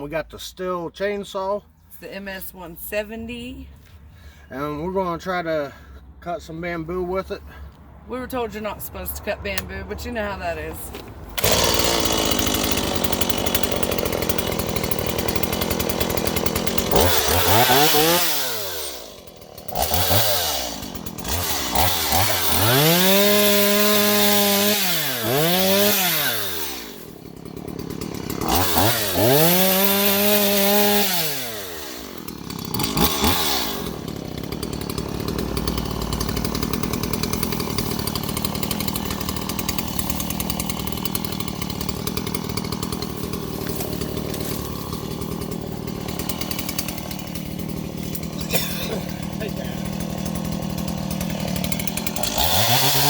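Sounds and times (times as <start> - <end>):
chainsaw cutting bamboo: 9.5 - 53.0.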